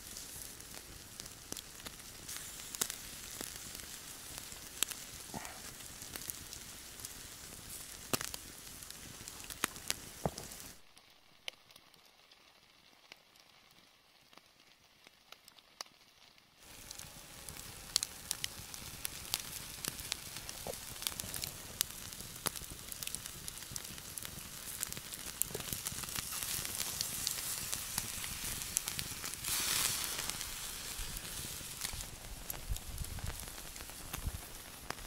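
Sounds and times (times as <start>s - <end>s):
meat sizzling on a grill: 0.0s - 13.8s, 15.4s - 35.0s
wood fire crackling: 0.0s - 35.0s.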